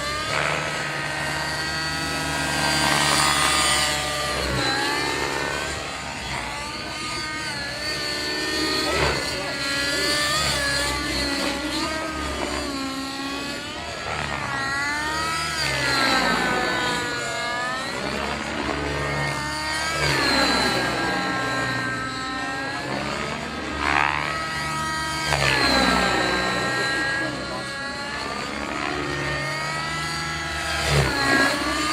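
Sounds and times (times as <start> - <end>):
model helicopter rotor and motor whine: 0.0 - 31.9.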